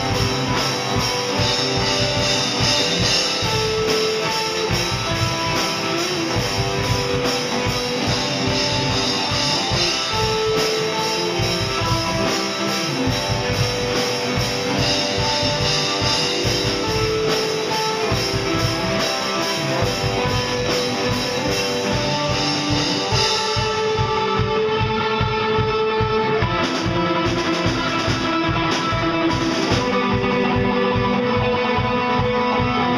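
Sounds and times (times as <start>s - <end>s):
drum kit playing: 0.0s - 32.9s
electric guitars: 0.0s - 32.9s.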